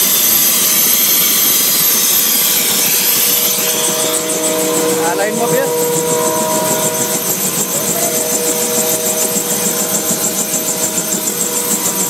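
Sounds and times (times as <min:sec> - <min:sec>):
helicopter rotor beating: 0:00.0 - 0:12.0
helicopter turbine whine: 0:00.0 - 0:12.0.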